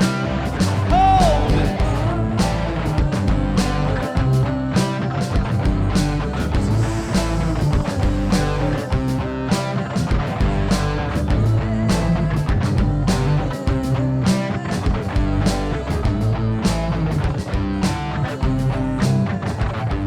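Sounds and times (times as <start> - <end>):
steady drum beat: 0.0 - 18.7
worship band music: 0.0 - 19.8.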